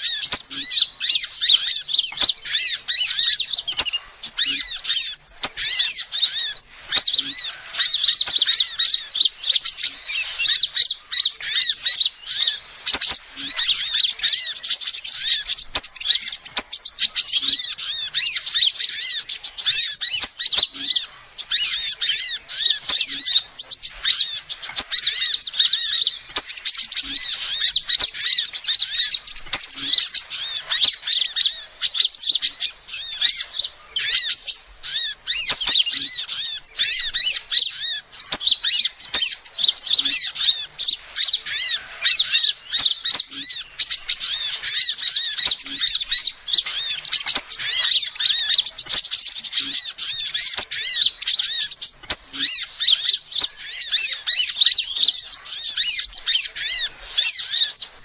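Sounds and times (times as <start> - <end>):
sunbird high-pitched chirps: 0.0 - 58.0.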